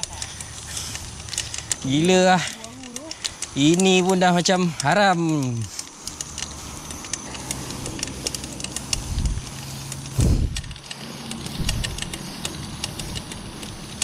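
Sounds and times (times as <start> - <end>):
light clicks and rattles: 0.0 - 14.0.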